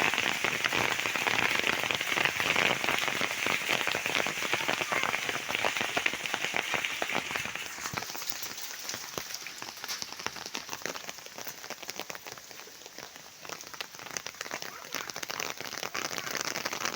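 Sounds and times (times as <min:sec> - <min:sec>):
hailstones hitting hard surface: 0:00.0 - 0:16.9.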